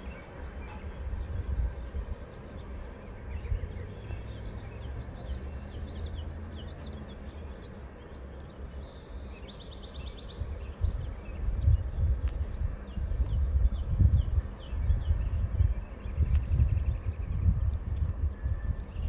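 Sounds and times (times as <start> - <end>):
distant freight train rumble: 0.0 - 19.0
small birds chirping: 0.0 - 19.0.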